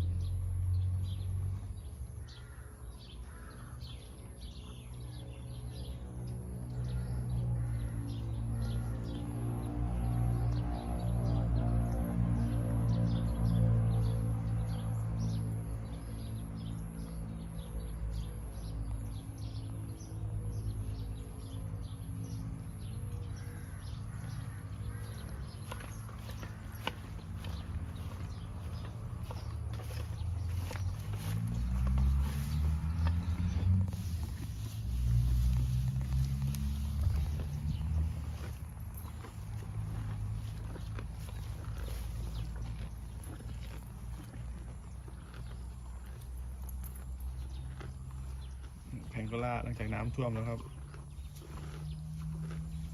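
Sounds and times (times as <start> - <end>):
birds chirping and calling: 0.0 - 10.6, 12.8 - 52.9.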